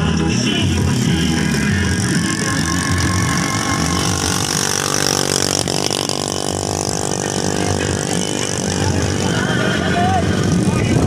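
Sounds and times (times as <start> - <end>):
street noise: 0.0 - 11.0
vehicle engine running: 0.0 - 11.0.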